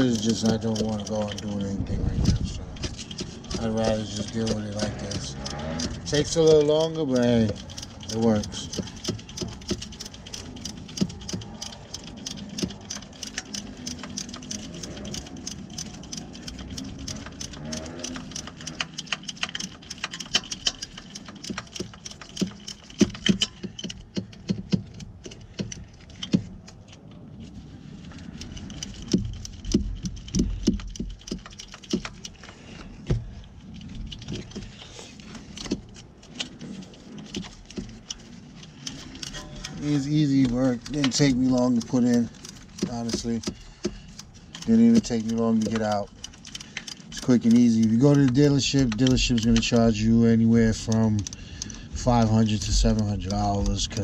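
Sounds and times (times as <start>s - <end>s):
ratchet wrench clicking: 0.0s - 26.8s, 28.0s - 54.0s.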